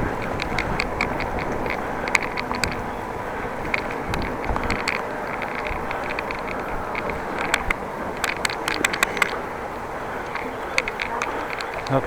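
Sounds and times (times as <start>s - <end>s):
bicycle squeaks: 0.0s - 12.0s
wind and tyre noise: 0.0s - 12.0s.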